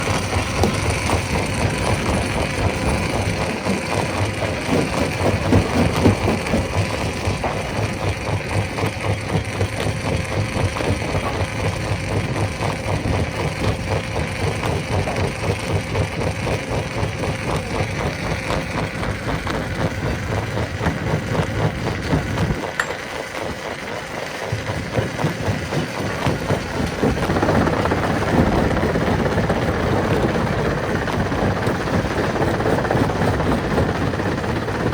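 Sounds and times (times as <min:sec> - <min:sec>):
stone crusher machine running: 0:00.0 - 0:34.9.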